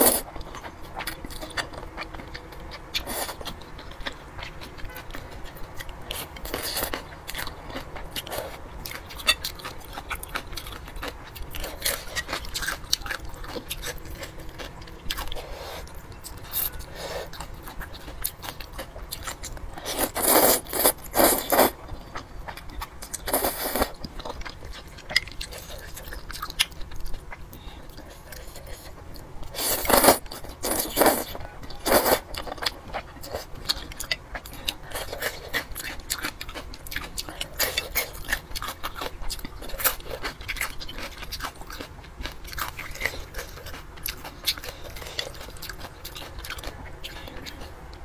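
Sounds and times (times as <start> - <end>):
chewing and crunching noodles: 0.0 - 48.0.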